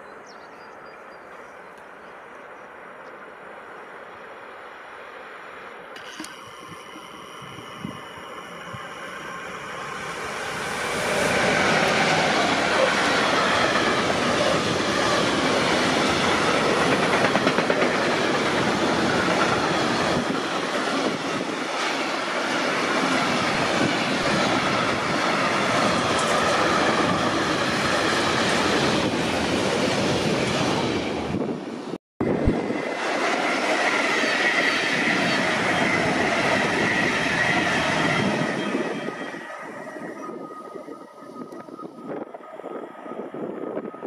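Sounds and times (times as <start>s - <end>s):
train passing: 1.7s - 44.0s.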